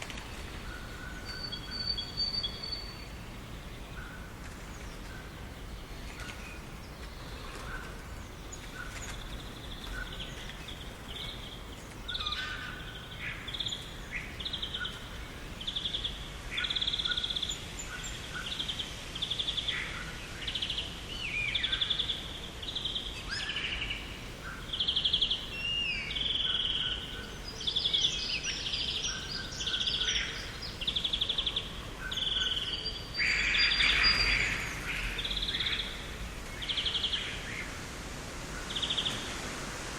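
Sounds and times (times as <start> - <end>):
small birds chirping and trilling: 0.0 - 37.8, 38.5 - 39.5
steady background hiss: 0.0 - 39.9.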